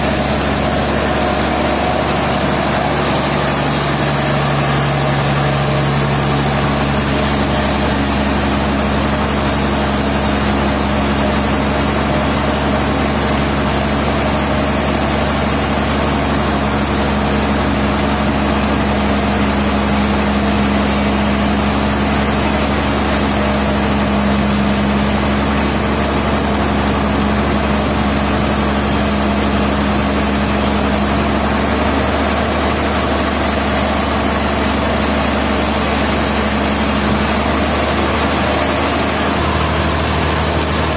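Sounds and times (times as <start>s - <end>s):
sawmill engine hum: 0.0s - 40.9s.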